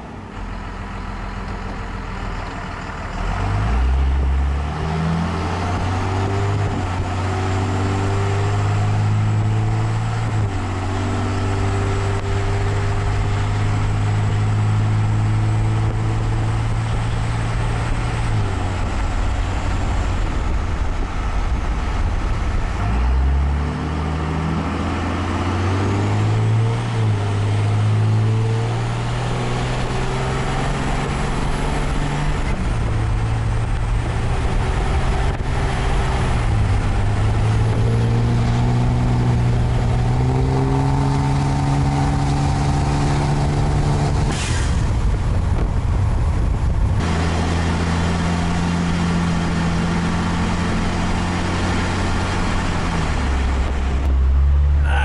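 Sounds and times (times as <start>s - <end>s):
diesel truck accelerating: 0.0s - 55.0s.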